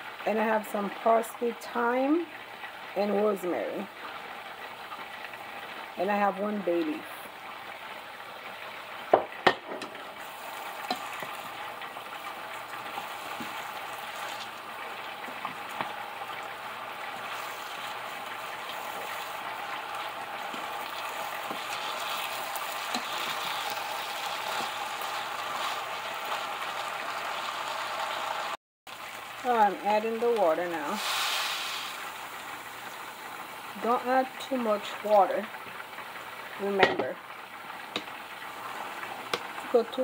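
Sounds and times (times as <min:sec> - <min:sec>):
rice sizzling in pan: 0:00.0 - 0:40.0.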